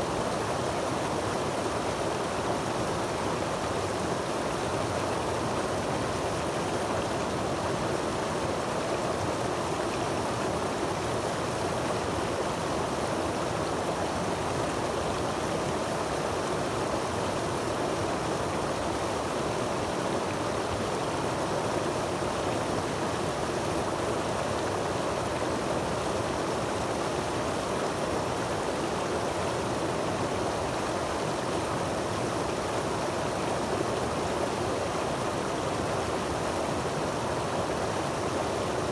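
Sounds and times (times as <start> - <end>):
water cascading over rocks: 0.0 - 38.9.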